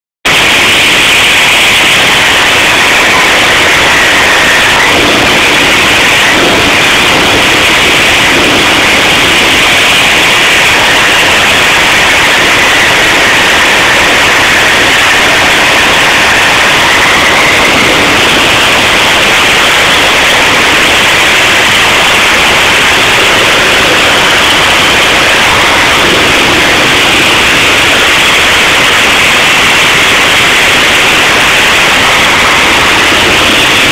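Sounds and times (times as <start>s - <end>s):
diesel engine running: 0.2s - 33.9s.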